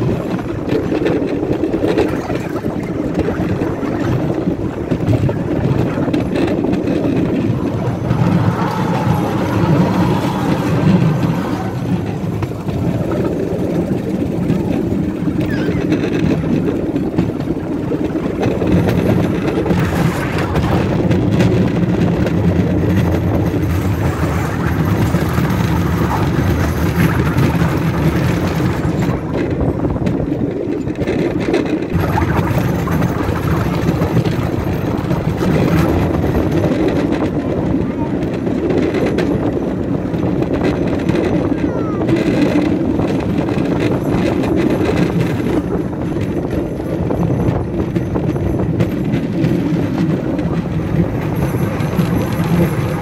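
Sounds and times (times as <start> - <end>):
wheels rattling on rails: 0.0 - 53.0.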